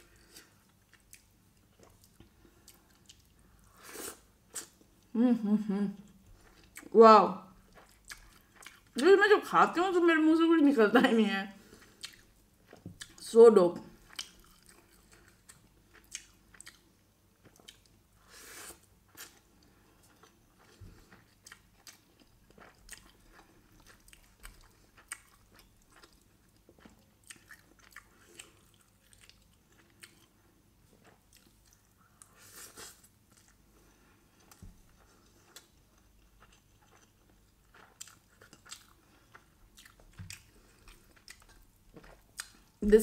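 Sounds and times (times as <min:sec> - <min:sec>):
close chewing: 0:00.1 - 0:03.8, 0:06.1 - 0:09.1, 0:11.7 - 0:13.2, 0:14.0 - 0:18.0, 0:18.8 - 0:42.8.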